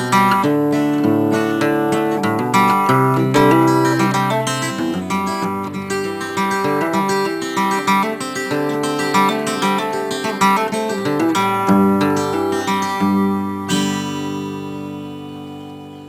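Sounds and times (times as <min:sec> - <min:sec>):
guitar picking and strumming: 0:00.0 - 0:16.0.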